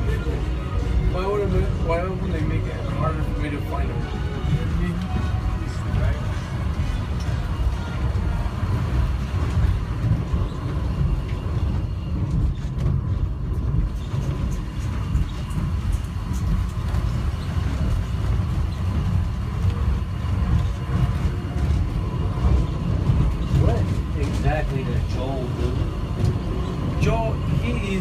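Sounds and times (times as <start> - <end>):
train car rumbling: 0.0 - 28.0.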